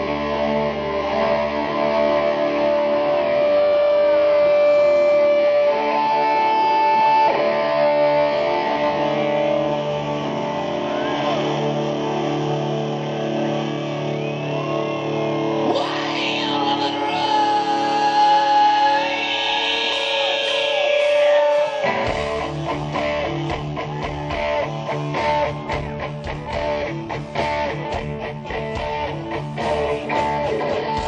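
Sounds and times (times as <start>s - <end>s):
electric guitar sustained notes: 0.0s - 31.0s
hard rock band playing: 0.0s - 31.0s.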